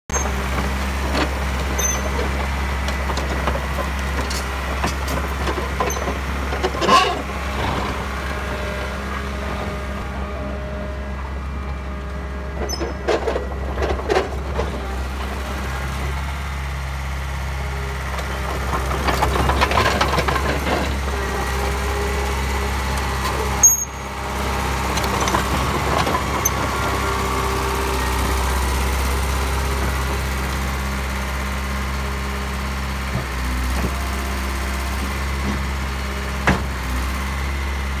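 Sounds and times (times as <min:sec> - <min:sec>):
diesel engine running: 0:00.1 - 0:38.0.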